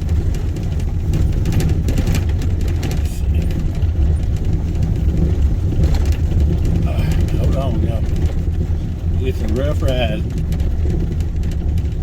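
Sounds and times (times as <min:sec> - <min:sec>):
rattles and knocks in cab: 0:00.0 - 0:12.0
truck engine and tyres rumbling: 0:00.0 - 0:12.0.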